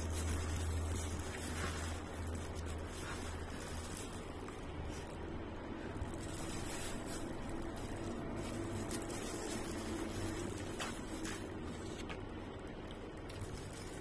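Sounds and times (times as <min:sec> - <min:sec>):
plastic glove crinkling: 0:00.0 - 0:14.0
room hum and hiss: 0:00.0 - 0:14.0
wet chewing: 0:00.0 - 0:14.0.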